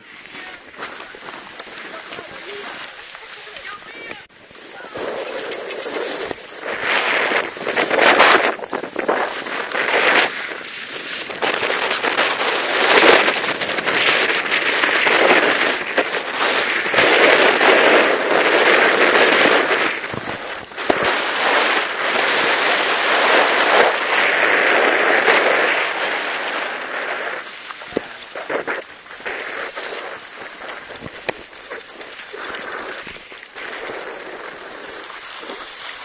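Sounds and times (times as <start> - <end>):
skis scraping over snow: 0.0 - 36.0.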